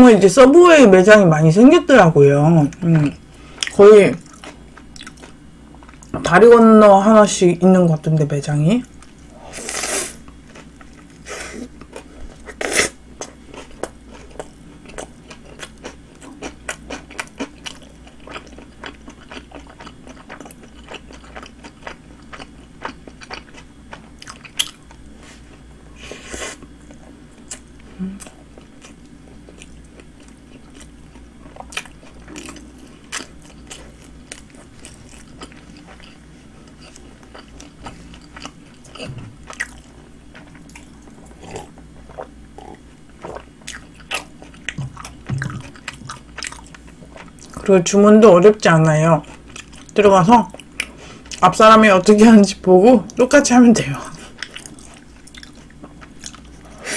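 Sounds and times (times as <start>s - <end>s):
person chewing sandwich: 2.7s - 6.1s, 8.9s - 25.7s, 26.4s - 47.6s, 49.2s - 51.4s, 54.2s - 56.9s.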